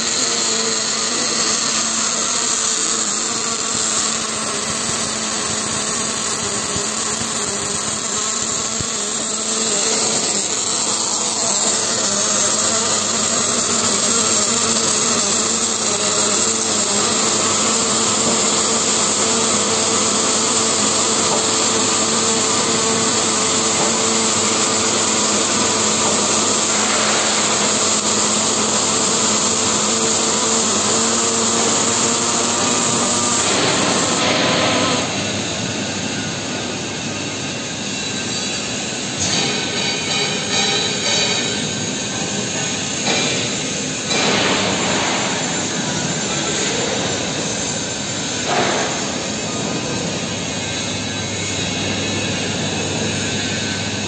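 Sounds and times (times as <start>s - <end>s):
welding arc hissing: 0.0s - 54.0s
workshop machinery hum: 0.0s - 54.0s.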